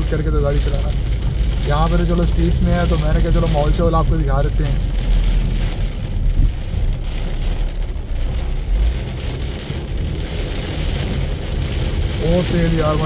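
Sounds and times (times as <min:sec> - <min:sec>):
car rumbling on wet road: 0:00.0 - 0:13.0
heavy rain on a car: 0:00.0 - 0:13.0.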